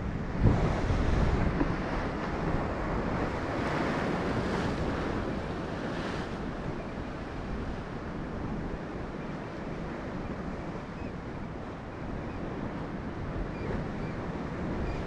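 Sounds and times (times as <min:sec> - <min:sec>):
ocean surf washing on shore: 0:00.0 - 0:15.0
wind on microphone: 0:00.0 - 0:15.0.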